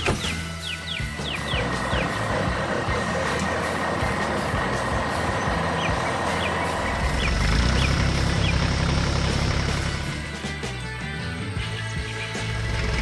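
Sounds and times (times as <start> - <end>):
heavy truck engine running: 0.0 - 13.0.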